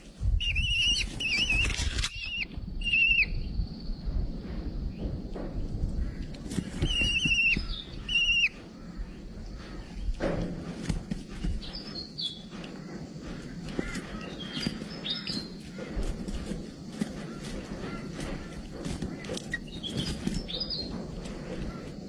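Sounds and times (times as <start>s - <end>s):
bird calling: 0.0s - 3.5s, 5.9s - 22.0s.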